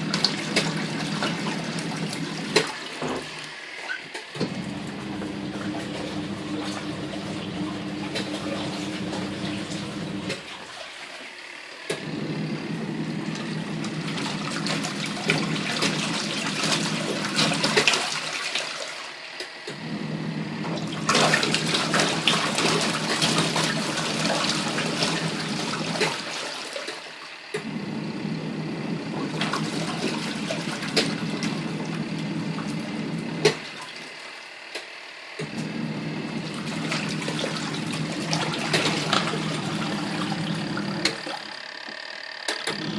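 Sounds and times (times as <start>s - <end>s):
washing machine agitator churning: 0.0s - 42.9s.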